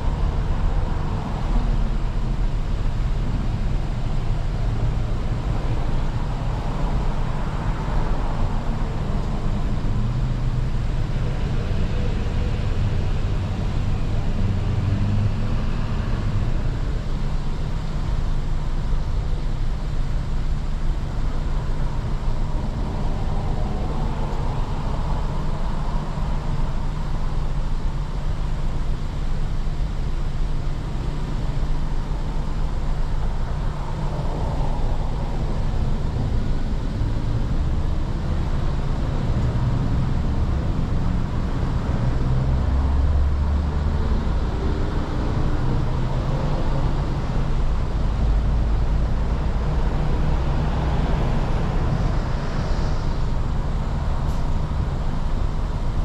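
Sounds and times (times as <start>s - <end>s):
car engine low rumble: 0.0s - 56.0s.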